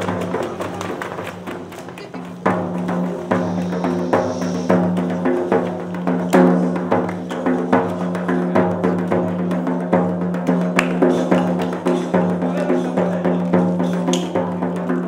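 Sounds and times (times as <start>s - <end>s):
frame drum beating: 0.0s - 15.0s.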